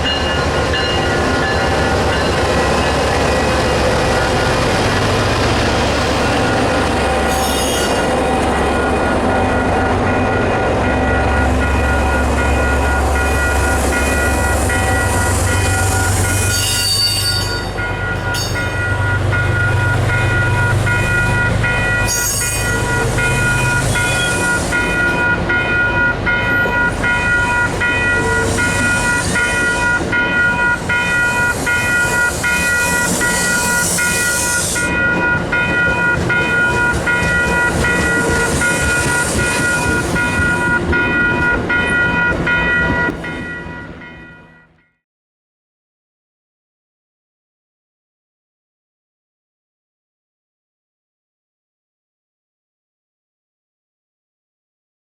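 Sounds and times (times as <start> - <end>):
train engine rumble: 0.0 - 44.7
ringing tones from train wheels: 0.0 - 44.8.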